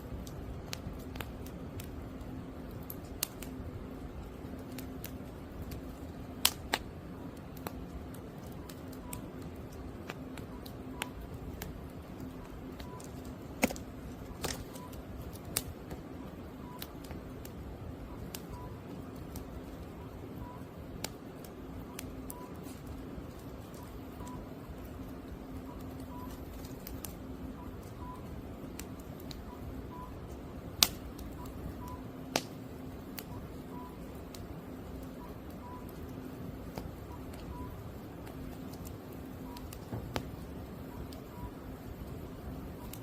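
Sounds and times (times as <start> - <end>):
faint steady hum: 0.0 - 43.0
firewood crackling and popping: 0.0 - 43.0.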